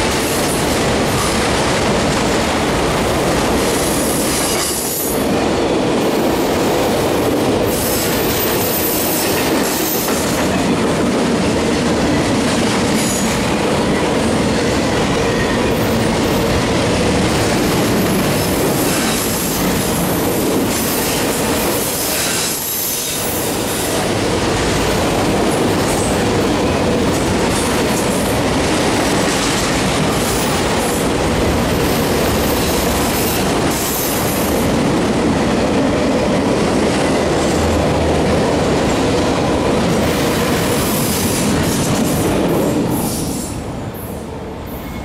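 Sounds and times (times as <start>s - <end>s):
freight cars rumbling on rails: 0.0s - 45.0s.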